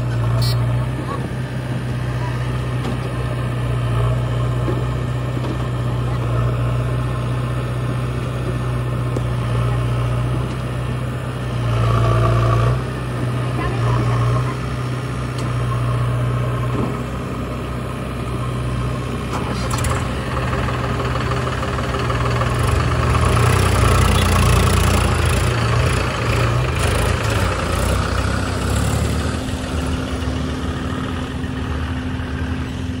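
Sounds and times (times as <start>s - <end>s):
backhoe loader diesel engine: 0.0s - 33.0s
tractor diesel engine: 0.0s - 33.0s.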